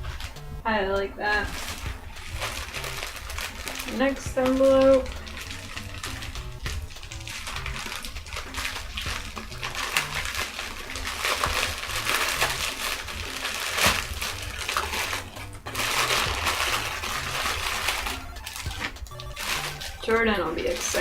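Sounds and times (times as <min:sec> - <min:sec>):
faint background music: 0:00.0 - 0:21.0
packaging rustling and crinkling: 0:00.0 - 0:21.0
envelope tearing open: 0:01.5 - 0:21.0.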